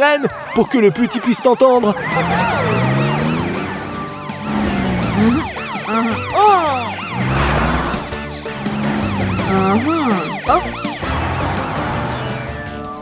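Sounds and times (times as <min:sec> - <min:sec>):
cartoon police siren wailing: 0:00.0 - 0:12.9.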